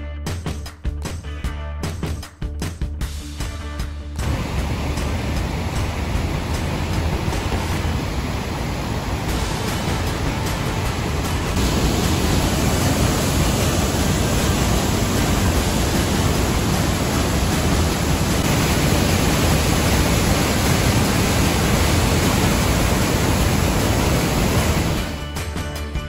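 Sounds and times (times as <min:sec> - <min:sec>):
whitewater rapids rushing: 0:04.2 - 0:25.2.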